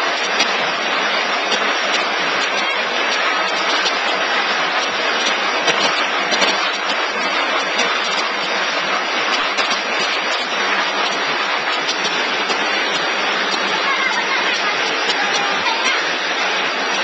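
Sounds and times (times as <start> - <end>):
forming machine clattering and hissing: 0.0 - 17.0.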